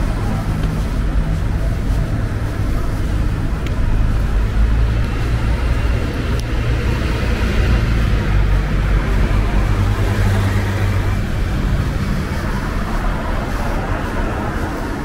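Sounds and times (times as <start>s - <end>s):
engine hum: 0.0s - 15.0s
low traffic rumble: 0.0s - 15.0s.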